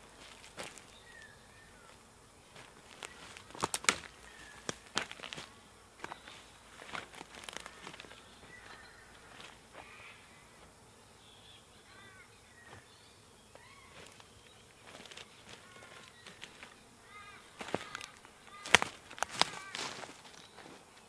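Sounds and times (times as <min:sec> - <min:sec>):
footsteps on dry leaves and twigs: 0:00.0 - 0:10.8, 0:12.5 - 0:21.0
bird calling: 0:00.0 - 0:20.8.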